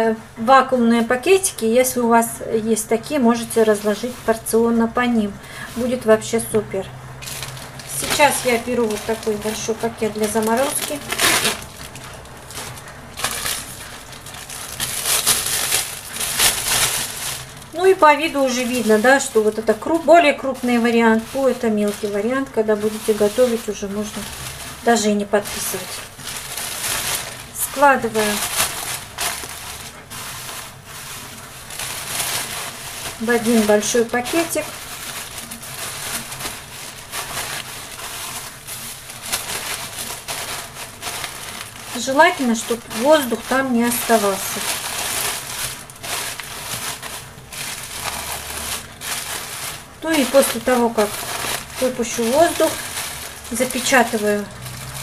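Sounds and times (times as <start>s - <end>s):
plastic bag crinkling: 1.2s - 55.0s.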